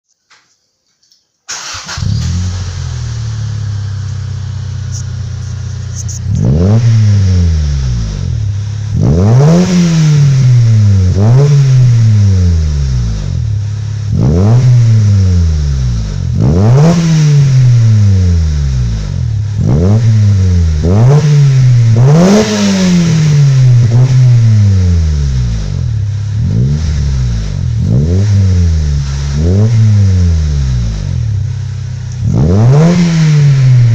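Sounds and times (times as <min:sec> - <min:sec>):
car engine starting and idling: 0:01.5 - 0:33.9
engine revving: 0:01.5 - 0:33.9.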